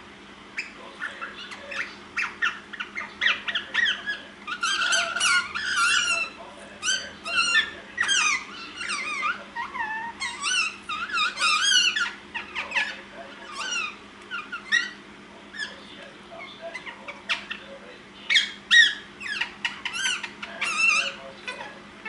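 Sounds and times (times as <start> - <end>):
parakeets chirping: 0.5 - 22.0.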